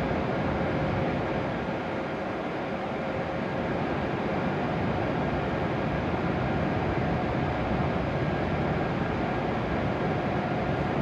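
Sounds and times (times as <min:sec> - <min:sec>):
idling train hum and whir: 0:00.0 - 0:11.0.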